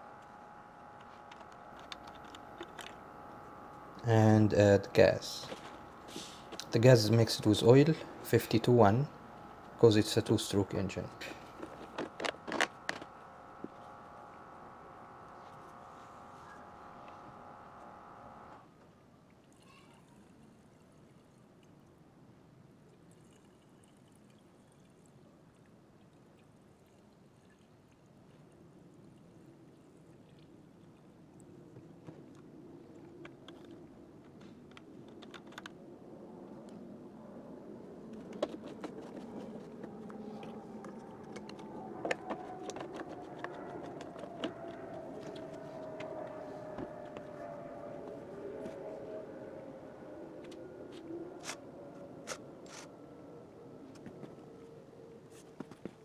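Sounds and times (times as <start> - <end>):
steady hum with faint tone: 0.0 - 56.0.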